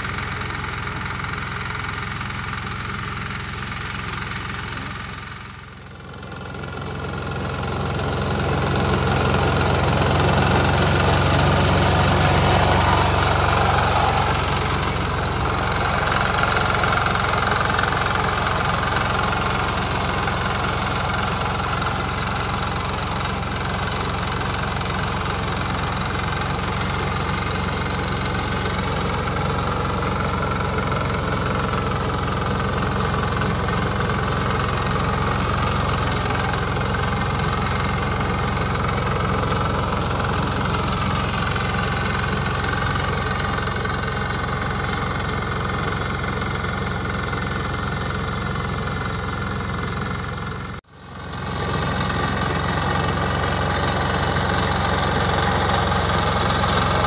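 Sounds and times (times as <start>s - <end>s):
tiller engine running: 0.0s - 57.0s.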